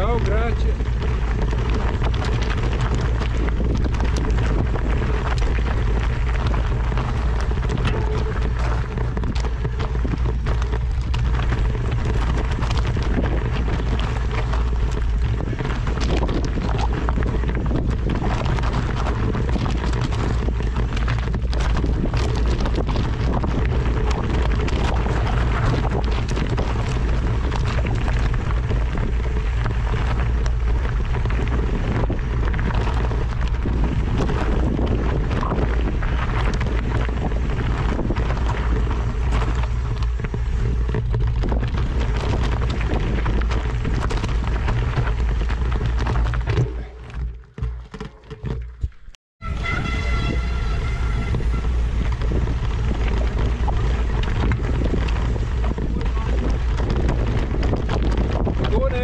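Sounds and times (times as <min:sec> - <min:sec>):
steady low rumble: 0:00.0 - 0:59.0
wind buffeting the microphone: 0:00.0 - 0:59.0.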